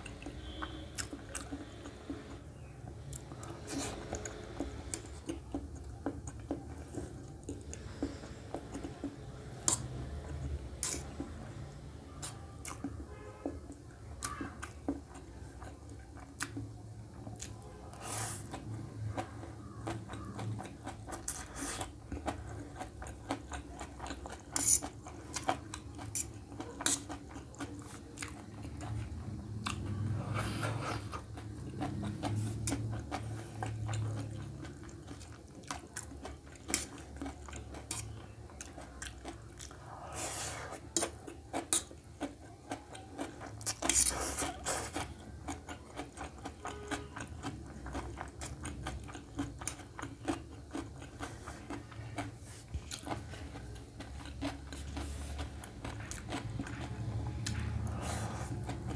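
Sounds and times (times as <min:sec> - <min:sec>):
chewing noodles: 0:00.0 - 0:58.9.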